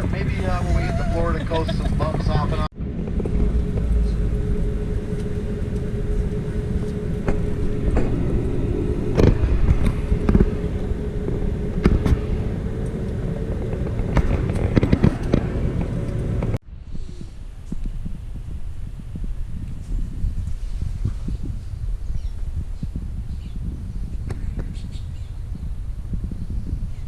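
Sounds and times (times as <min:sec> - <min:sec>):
steady hum: 0:00.0 - 0:27.0
vehicle engine rumble: 0:00.0 - 0:27.0.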